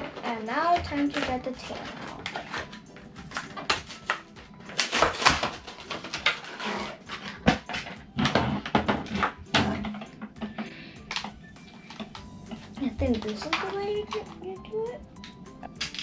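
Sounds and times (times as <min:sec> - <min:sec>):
packaging rustling and crinkling: 0:00.0 - 0:16.0.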